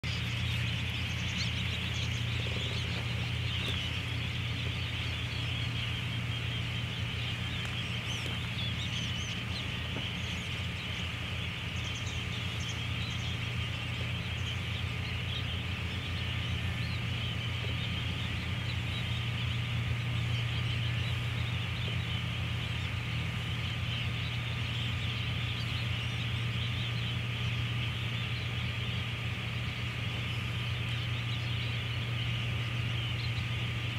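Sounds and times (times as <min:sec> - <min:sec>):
distant bird calls: 0:00.0 - 0:33.9
steady low rumble: 0:00.0 - 0:33.9.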